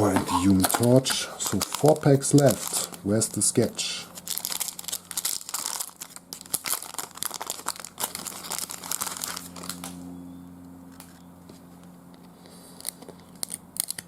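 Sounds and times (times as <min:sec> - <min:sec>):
card pack wrapper crinkling and tearing: 0:00.0 - 0:10.0, 0:12.7 - 0:14.0.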